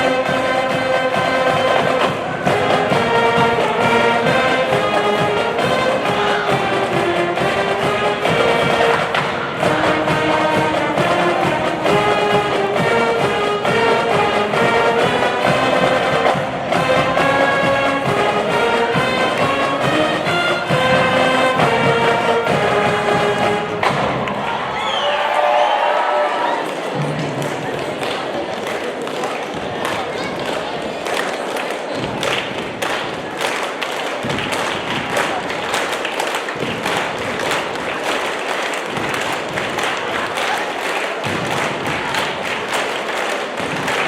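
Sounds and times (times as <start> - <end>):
brass band music: 0.0 - 24.6, 32.8 - 44.0.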